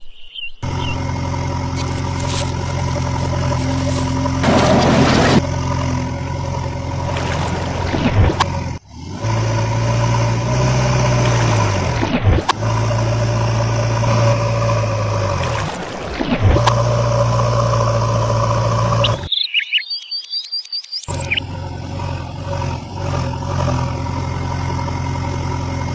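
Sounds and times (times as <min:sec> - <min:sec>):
vehicle engine running: 0:00.6 - 0:15.8, 0:16.6 - 0:19.3, 0:21.1 - 0:25.9.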